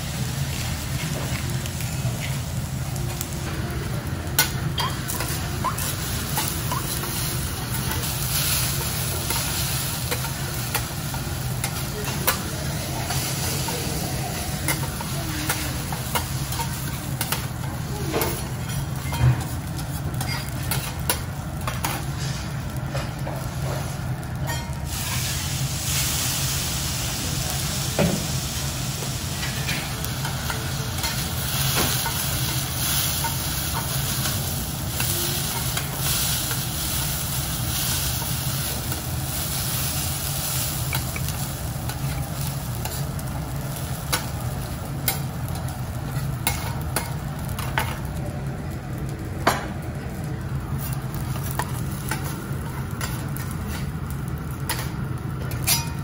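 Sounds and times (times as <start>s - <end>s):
rice sizzling on a griddle: 0.0s - 56.0s.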